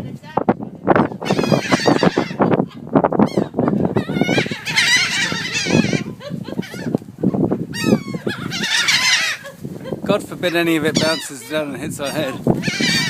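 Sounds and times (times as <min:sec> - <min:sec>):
seagulls squawking: 0:01.0 - 0:13.0.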